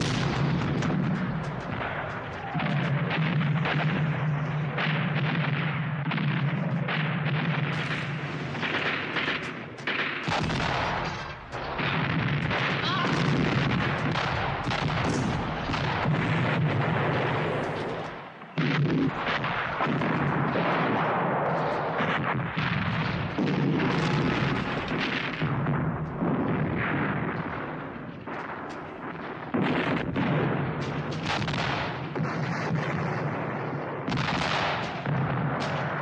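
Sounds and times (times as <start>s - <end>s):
field guns firing: 0.0s - 36.0s
shells exploding: 0.0s - 36.0s.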